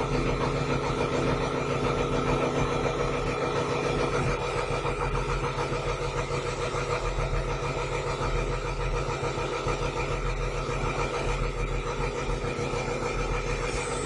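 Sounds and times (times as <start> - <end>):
crane diesel engine running: 0.0 - 14.0.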